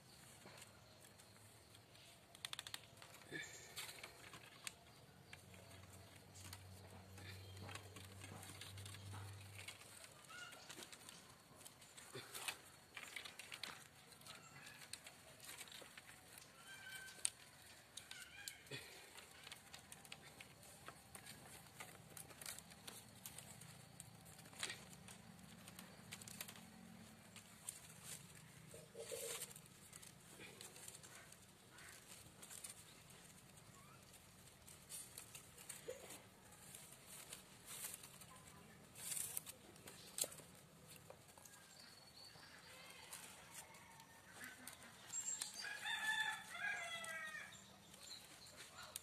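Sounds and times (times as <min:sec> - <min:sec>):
bamboo strips clicking: 0:00.4 - 0:41.7.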